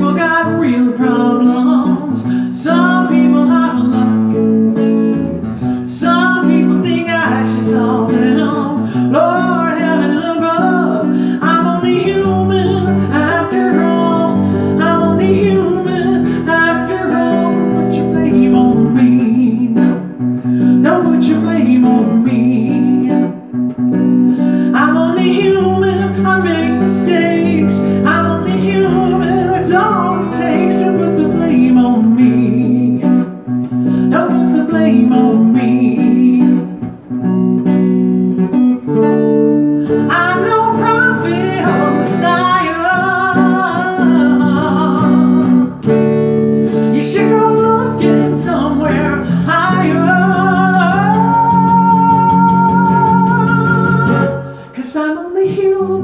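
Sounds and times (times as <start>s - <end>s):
electric guitar chords: 0.0s - 56.0s
woman singing: 0.0s - 56.0s.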